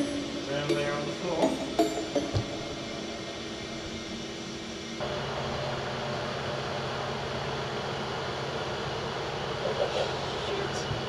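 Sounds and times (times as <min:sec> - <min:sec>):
engine room machinery drone: 0:00.0 - 0:11.0.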